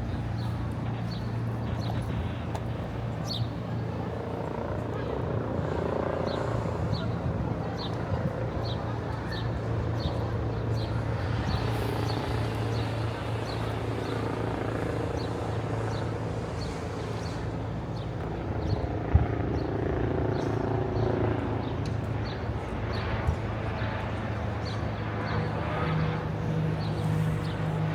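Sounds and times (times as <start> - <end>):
low traffic hum: 0.0 - 27.9.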